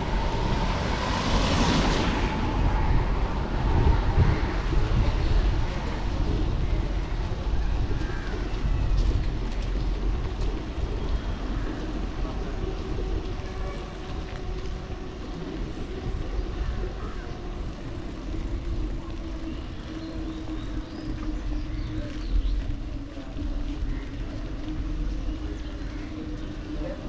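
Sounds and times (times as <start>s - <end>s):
faint engine hum: 0.0s - 27.0s
road traffic: 0.0s - 27.0s
wind on microphone: 0.0s - 27.0s.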